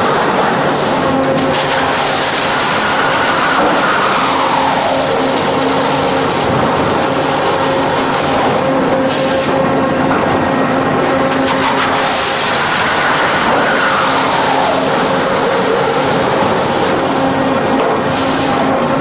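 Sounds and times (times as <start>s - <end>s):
lathe cutting noise: 0.0s - 19.0s
lathe machine hum: 0.0s - 19.0s.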